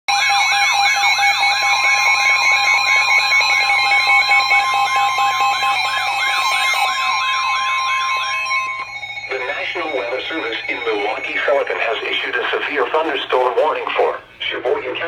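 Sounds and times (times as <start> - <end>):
warbling alarm: 0.1 - 14.4
steady attention tone: 1.0 - 14.8.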